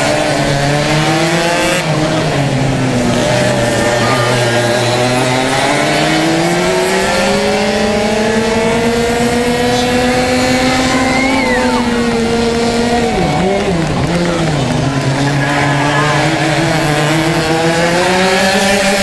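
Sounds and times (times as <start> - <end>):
racing kart engine at full throttle: 0.0 - 19.0
second kart engine passing: 0.0 - 19.0.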